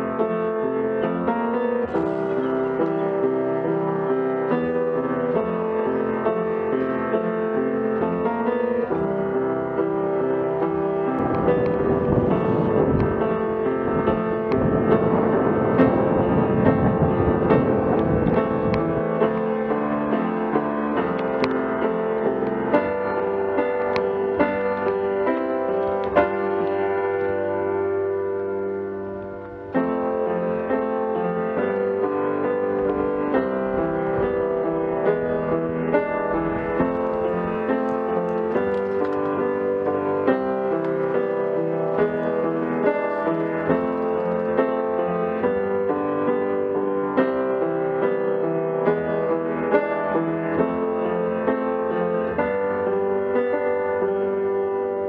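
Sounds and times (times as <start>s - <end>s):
piano music: 0.0s - 55.0s.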